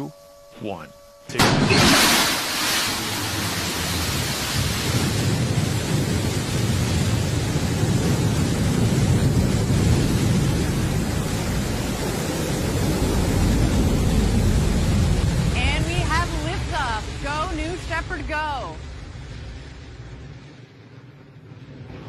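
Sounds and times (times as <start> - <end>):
rocket engine roaring: 0.0 - 22.0.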